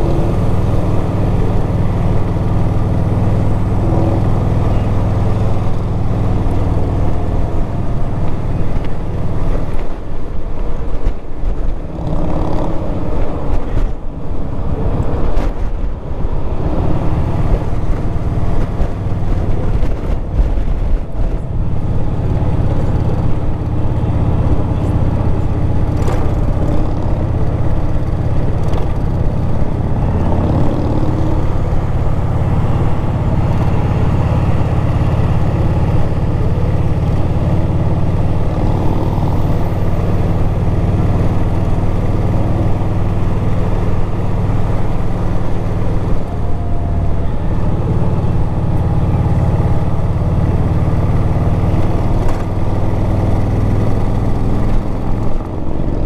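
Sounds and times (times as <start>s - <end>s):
motorcycle engine running: 0.0s - 56.0s
rushing wind noise: 0.0s - 56.0s.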